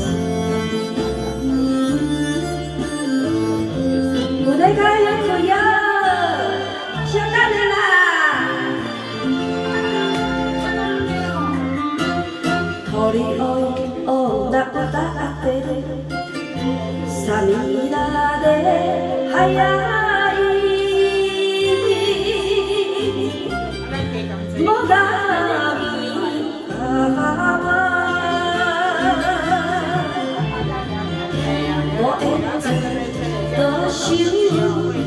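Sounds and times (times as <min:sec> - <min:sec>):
karaoke backing track: 0:00.0 - 0:35.0
woman singing into microphone: 0:01.6 - 0:08.9, 0:12.7 - 0:23.6, 0:24.6 - 0:35.0.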